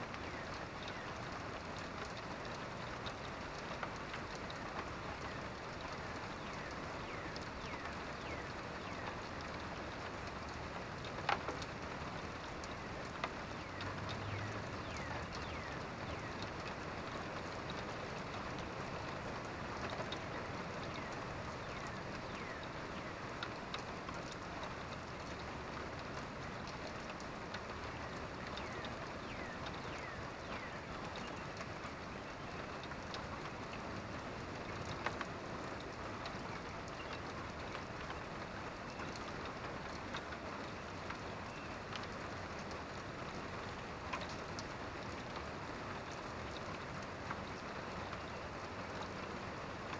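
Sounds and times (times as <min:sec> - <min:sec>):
rain falling: 0:00.0 - 0:49.9
drips ticking on a surface: 0:00.1 - 0:49.9.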